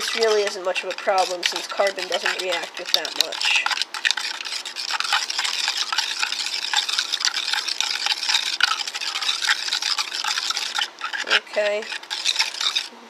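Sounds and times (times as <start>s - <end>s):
utensil scraping glass beaker: 0.0s - 12.9s.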